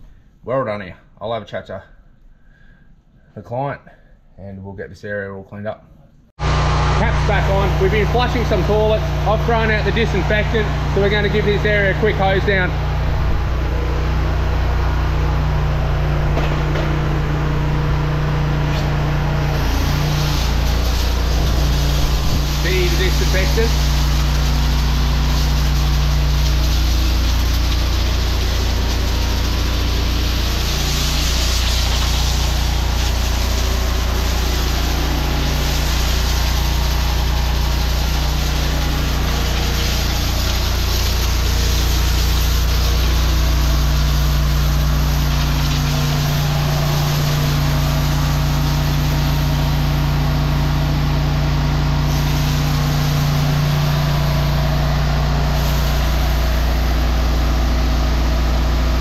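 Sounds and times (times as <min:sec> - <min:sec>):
drain jetter engine running: 0:06.4 - 0:59.0
water spraying onto concrete: 0:06.4 - 0:59.0.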